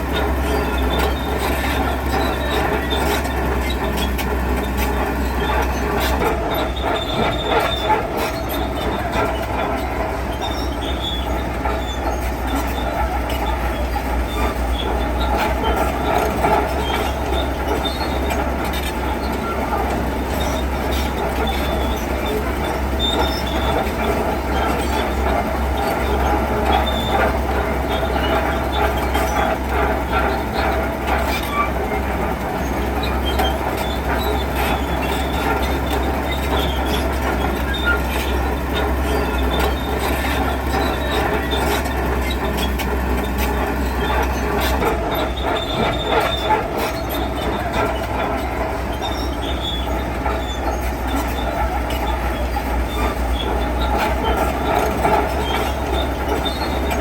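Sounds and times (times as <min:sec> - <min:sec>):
diesel engine running: 0:00.0 - 0:57.0
steel tracks squealing and clanking: 0:00.0 - 0:57.0.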